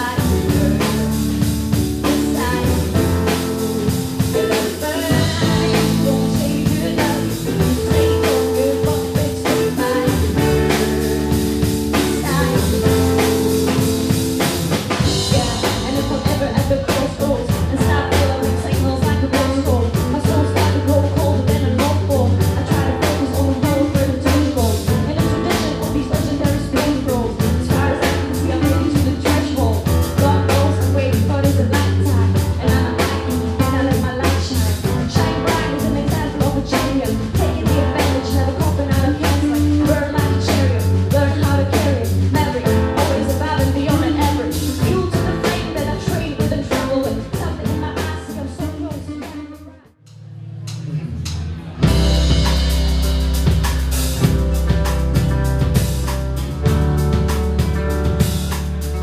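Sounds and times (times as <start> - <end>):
drum kit: 0.0 - 59.0
guitar: 0.0 - 59.0.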